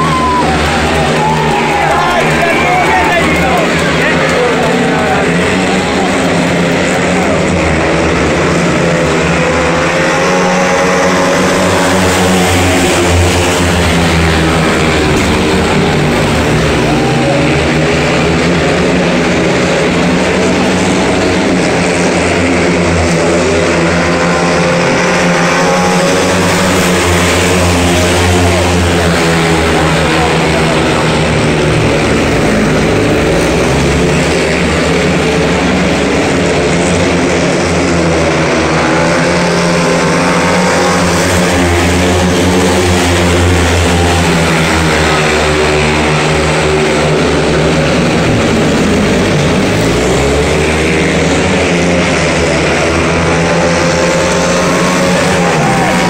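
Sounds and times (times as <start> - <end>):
motorcycles racing at full throttle: 0.0 - 56.0.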